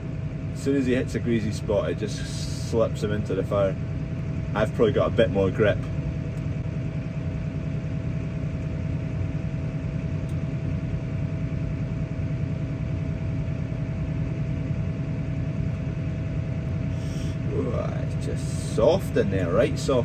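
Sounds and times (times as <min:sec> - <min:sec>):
thin whine: 0:00.0 - 0:20.0
tractor diesel engine running: 0:00.0 - 0:20.0.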